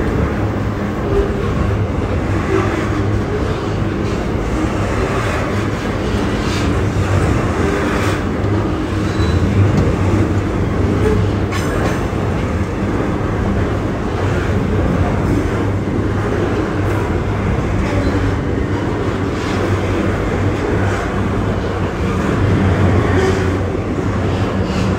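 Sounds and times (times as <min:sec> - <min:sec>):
diesel locomotive rumble: 0:00.0 - 0:24.9.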